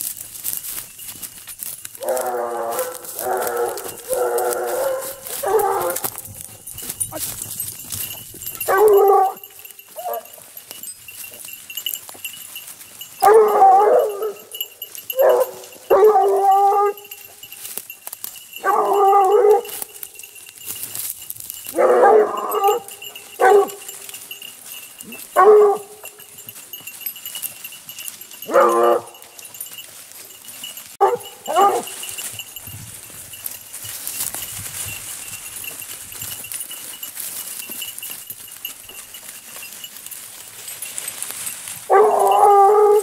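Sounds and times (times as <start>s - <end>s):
hounds baying: 1.9s - 43.0s.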